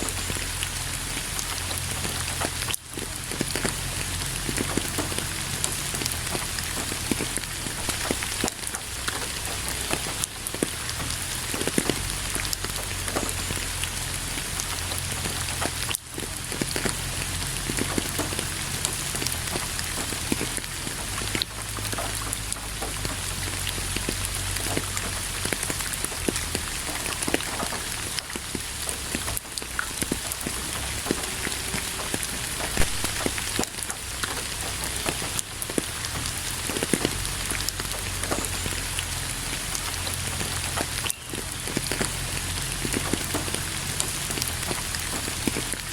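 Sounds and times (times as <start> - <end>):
raindrops striking close by: 0.0 - 45.9
steady rain falling: 0.0 - 45.9.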